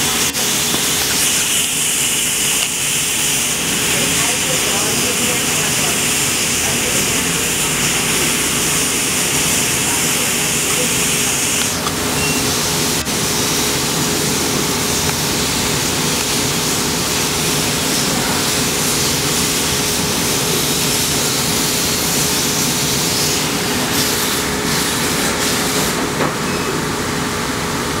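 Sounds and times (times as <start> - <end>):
airy hiss of air system: 0.0 - 26.2.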